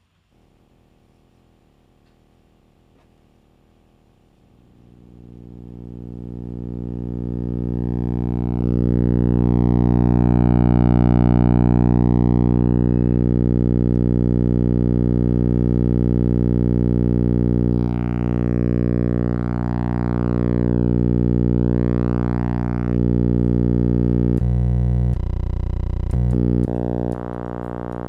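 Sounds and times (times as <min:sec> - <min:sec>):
low electronic buzzing drone: 0:04.4 - 0:28.0.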